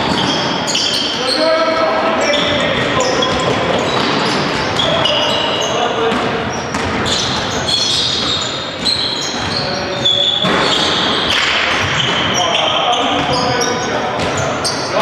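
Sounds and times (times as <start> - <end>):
basketball bouncing on court: 0.0 - 0.8, 2.3 - 15.0
indistinct voices: 0.0 - 15.0
shoes squeaking: 0.0 - 15.0.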